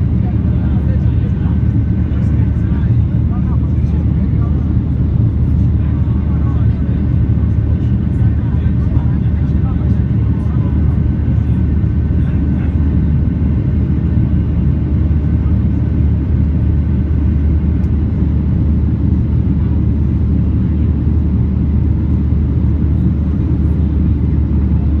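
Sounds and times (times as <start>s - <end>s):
jet engine cabin rumble: 0.0s - 25.0s.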